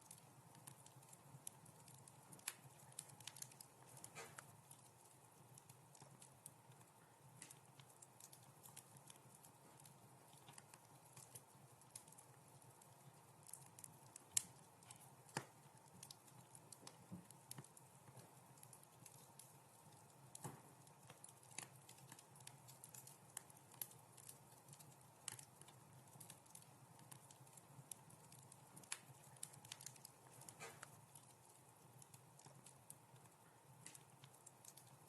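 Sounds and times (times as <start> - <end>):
faint low background hum: 0.0 - 35.0
wood fire crackling: 0.0 - 35.0.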